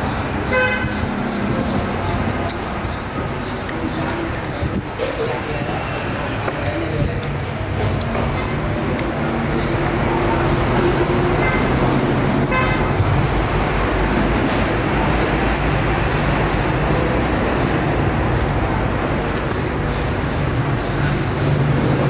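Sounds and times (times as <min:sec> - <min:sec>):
road traffic engines: 0:00.0 - 0:22.0.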